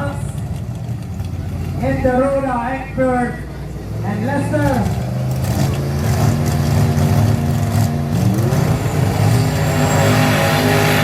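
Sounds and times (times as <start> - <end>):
race car engine idling and revving: 0.0 - 11.0.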